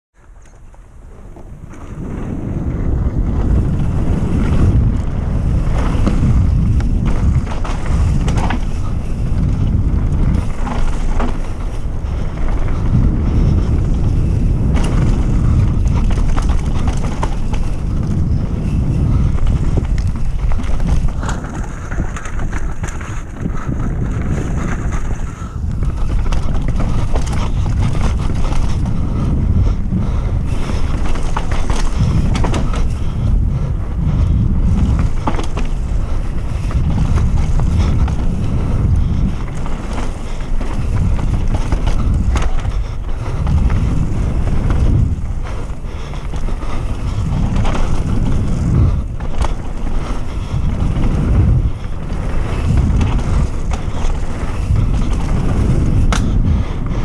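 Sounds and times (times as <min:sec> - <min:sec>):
bike tyre noise on dirt: 0:00.1 - 0:57.0
bike rattling clicks and knocks: 0:00.2 - 0:57.0
wind buffeting microphone: 0:00.2 - 0:57.0.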